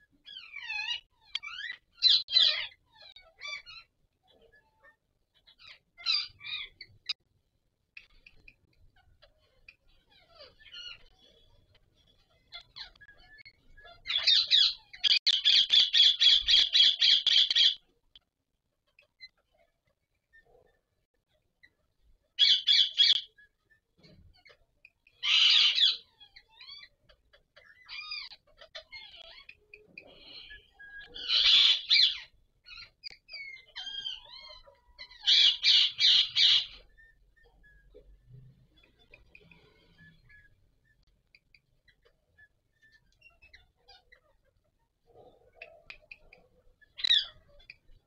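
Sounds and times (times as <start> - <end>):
parakeets screeching: 0.2 - 7.2, 8.0 - 17.9, 18.9 - 48.0
parrot squawking: 0.2 - 7.2, 8.0 - 17.9, 18.9 - 23.6, 24.3 - 44.8, 45.4 - 48.0.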